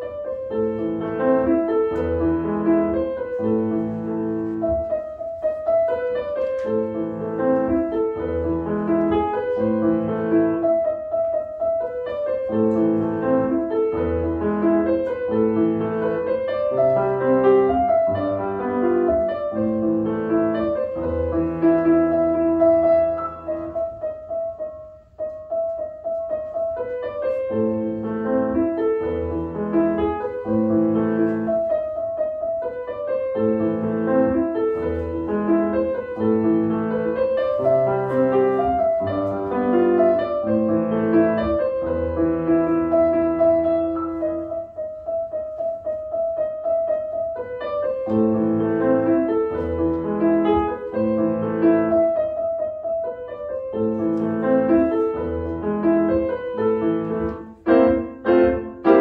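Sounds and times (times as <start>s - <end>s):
grand piano classical piece: 0.0s - 59.0s.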